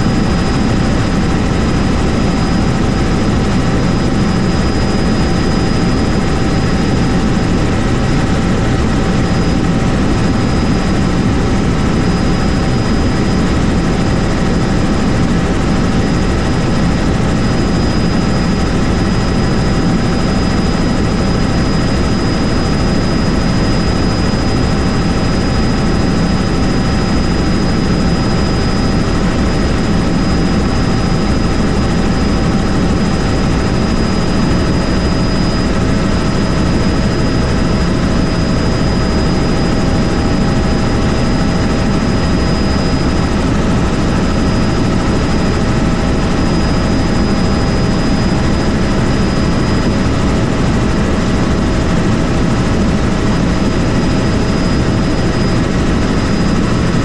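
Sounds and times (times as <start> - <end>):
helicopter rotor and engine: 0.0 - 57.0
steady high whine: 0.0 - 57.0.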